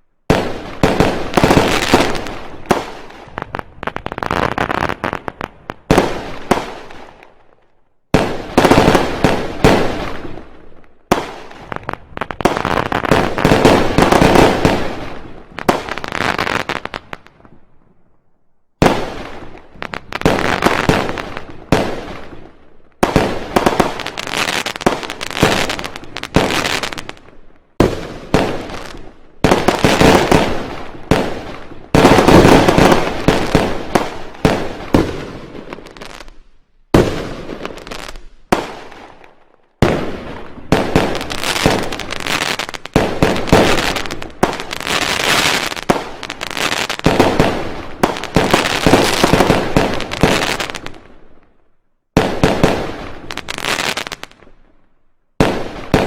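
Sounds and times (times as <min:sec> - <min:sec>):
fireworks bangs: 0:00.0 - 0:17.7, 0:18.8 - 0:51.4, 0:52.1 - 0:56.0
firecrackers crackling: 0:00.3 - 0:07.4, 0:08.1 - 0:17.3, 0:18.8 - 0:51.2, 0:52.2 - 0:54.6.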